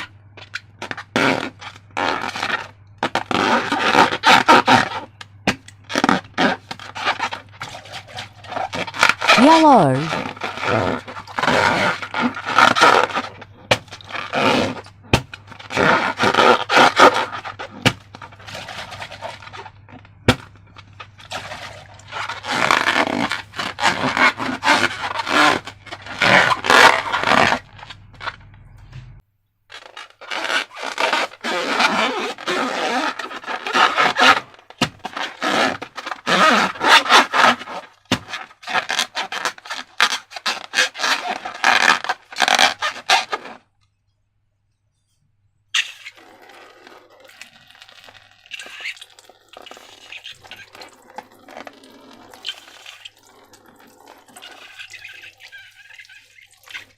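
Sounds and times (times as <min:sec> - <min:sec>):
slime crackling and scraping: 0:00.0 - 0:28.8, 0:29.7 - 0:43.7, 0:45.7 - 0:56.9.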